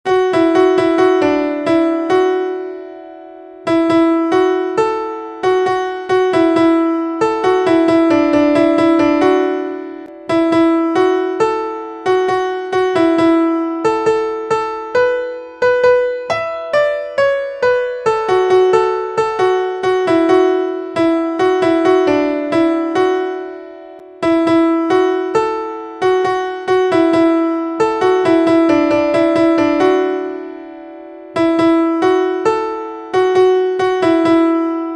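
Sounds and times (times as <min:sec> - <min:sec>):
electric piano ringtone melody: 0:00.1 - 0:34.9.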